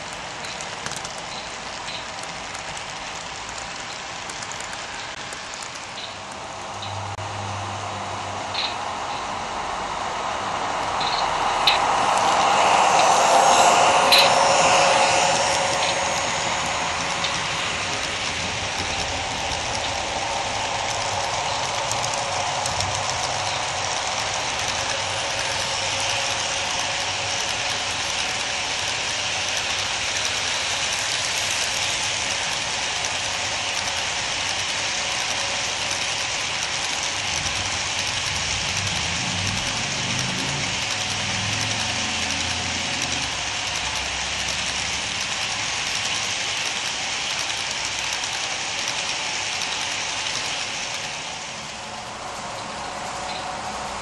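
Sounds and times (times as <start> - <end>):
model train wheels rolling on track: 0.0 - 54.0.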